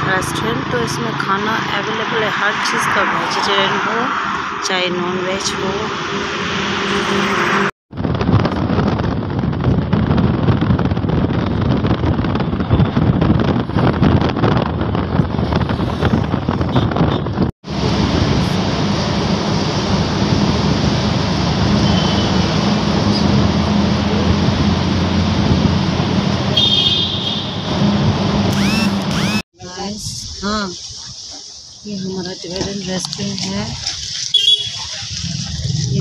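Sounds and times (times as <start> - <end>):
car engine drone: 0.0 - 29.4
road and wind noise: 0.0 - 36.0.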